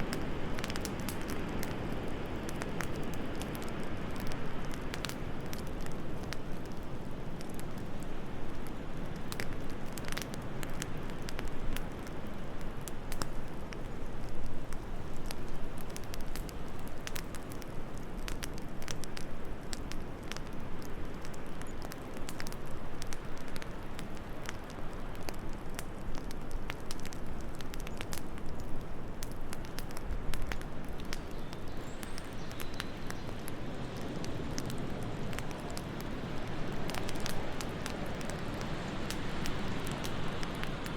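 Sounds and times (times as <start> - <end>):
sharp pops of fire: 0.0 - 40.9
wood fire crackling: 0.0 - 40.9.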